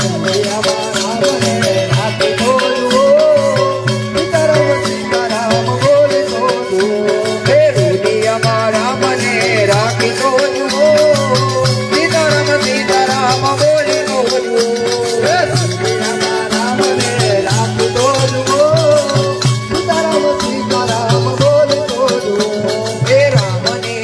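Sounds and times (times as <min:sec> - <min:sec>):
rattling shaker percussion: 0:00.0 - 0:24.0
repeating drum beat: 0:00.0 - 0:24.0.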